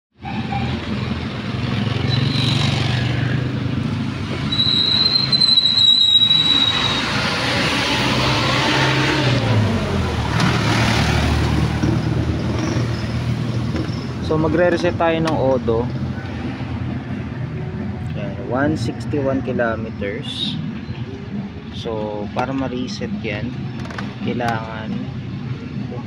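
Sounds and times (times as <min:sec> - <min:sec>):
vehicle engines passing: 0:00.2 - 0:26.0.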